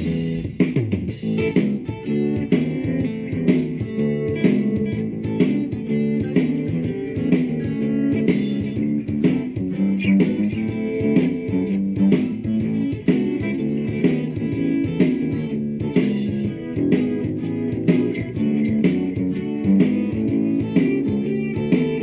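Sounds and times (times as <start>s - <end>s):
electric guitar blues notes: 0.0s - 22.0s
repeating backing part: 0.0s - 22.0s.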